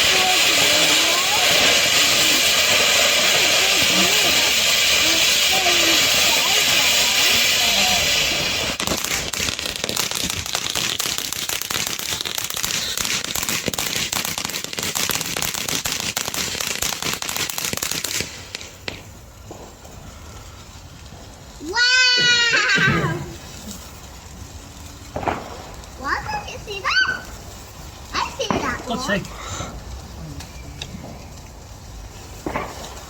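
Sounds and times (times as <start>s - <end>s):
firework hissing and crackling: 0.0s - 33.0s.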